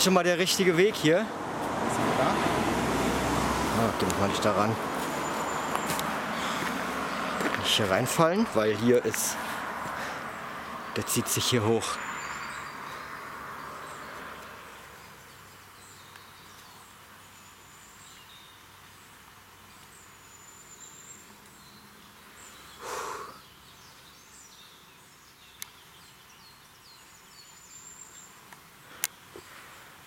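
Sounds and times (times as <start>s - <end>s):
birds chirping faintly: 0.0s - 30.0s.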